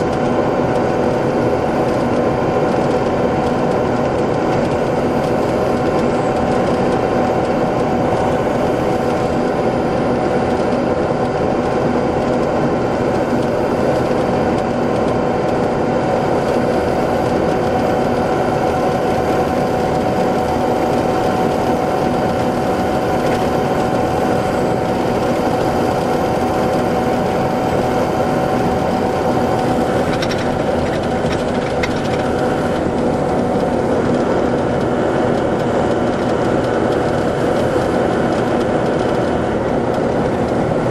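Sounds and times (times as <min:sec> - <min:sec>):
diesel engine running steadily: 0:00.0 - 0:40.9.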